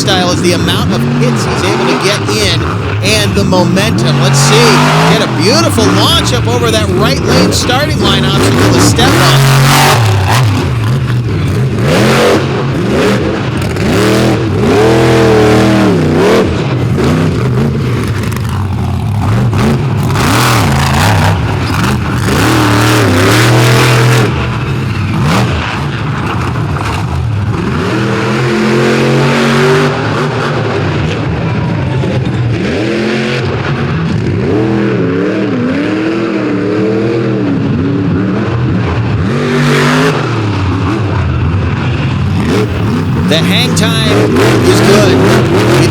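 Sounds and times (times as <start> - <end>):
monster truck engine revving: 0.0 - 45.9.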